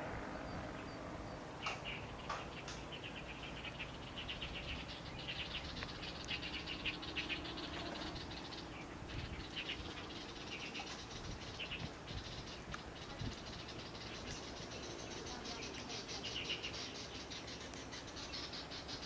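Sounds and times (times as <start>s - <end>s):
faint aircraft engine drone: 0.0s - 19.0s
rapid high insect chirping: 0.9s - 19.0s.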